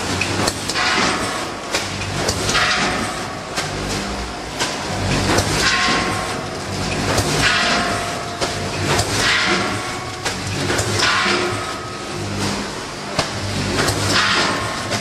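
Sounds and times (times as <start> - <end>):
machine clicks and knocks: 0.0 - 15.0
steady low hum: 0.0 - 15.0.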